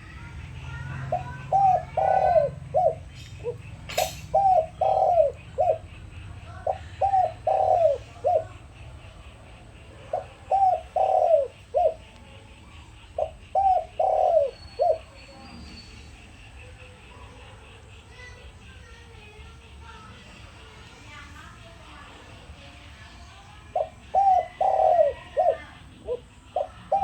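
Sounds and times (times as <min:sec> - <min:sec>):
dove cooing: 0:00.0 - 0:18.5, 0:22.0 - 0:27.0
small birds chirping: 0:00.0 - 0:27.0.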